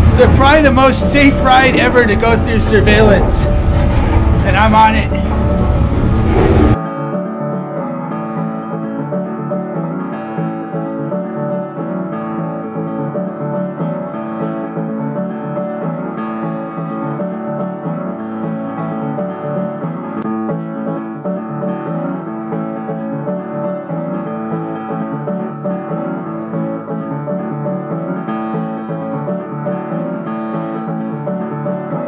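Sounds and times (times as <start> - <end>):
instrumental piano music: 0.0 - 32.0.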